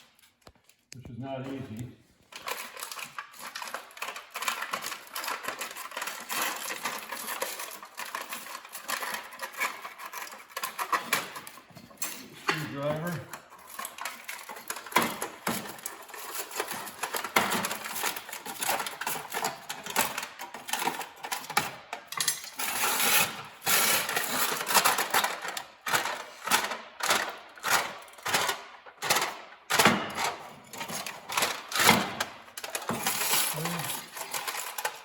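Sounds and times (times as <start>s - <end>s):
metal foil tearing and crinkling: 2.3s - 35.0s.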